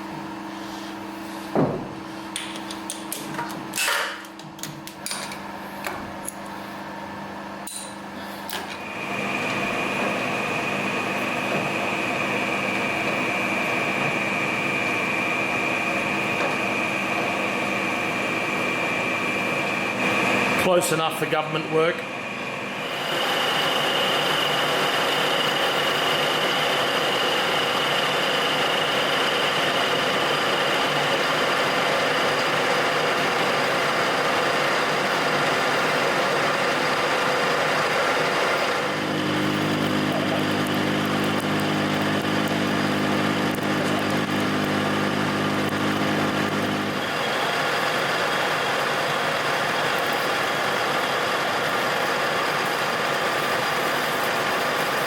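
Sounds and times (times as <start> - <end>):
workshop machine running: 0.0 - 55.0.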